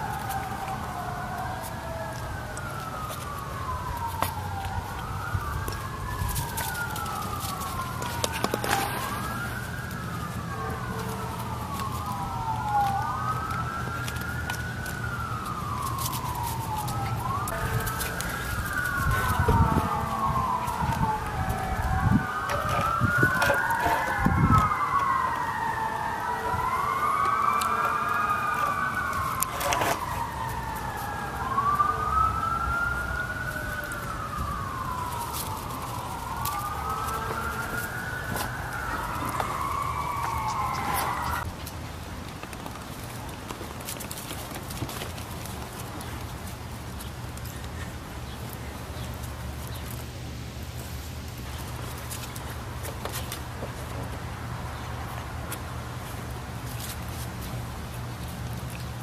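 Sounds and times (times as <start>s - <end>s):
sirens wailing: 0.0s - 41.7s, 42.4s - 59.0s.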